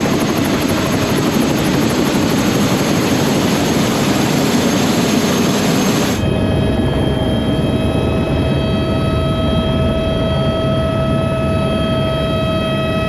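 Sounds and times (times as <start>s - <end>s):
loud mechanical drone: 0.0s - 13.0s.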